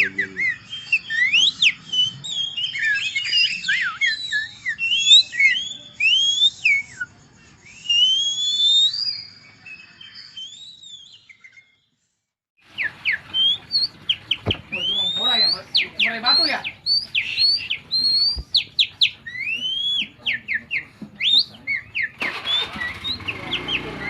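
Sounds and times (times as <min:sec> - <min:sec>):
man whistling birdsong: 0:00.0 - 0:11.8, 0:14.7 - 0:24.0.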